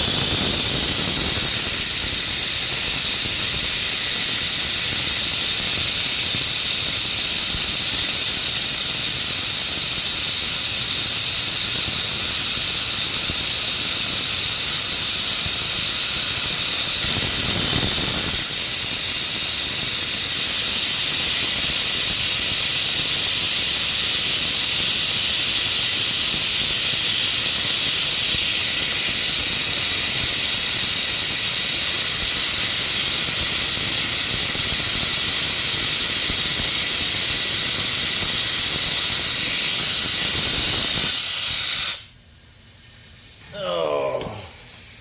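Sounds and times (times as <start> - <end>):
compressed air hissing: 0.0 - 45.0.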